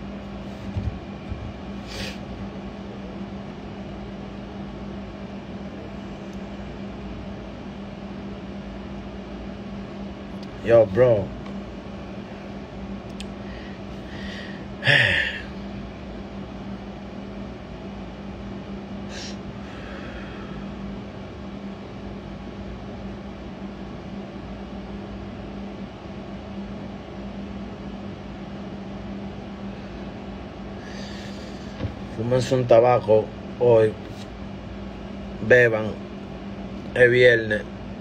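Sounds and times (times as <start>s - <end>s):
room hum: 0.0s - 38.0s.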